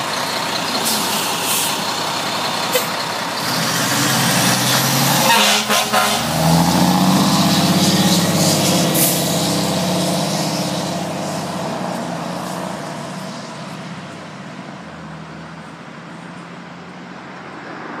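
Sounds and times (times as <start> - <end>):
fire engine diesel engine: 0.0 - 18.0.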